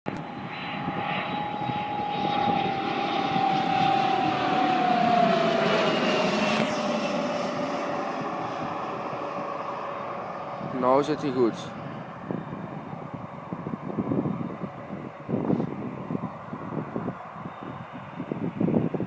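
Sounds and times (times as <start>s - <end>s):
jet engines whining: 0.1s - 19.0s
rushing air noise: 0.2s - 19.0s.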